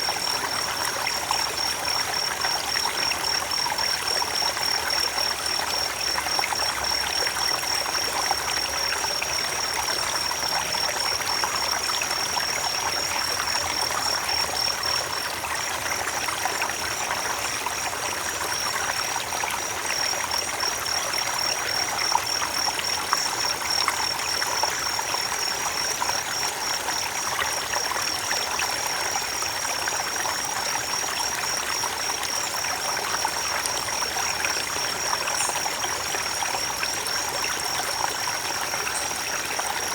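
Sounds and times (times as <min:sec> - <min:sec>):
creek water trickling over stones: 0:00.0 - 0:39.9.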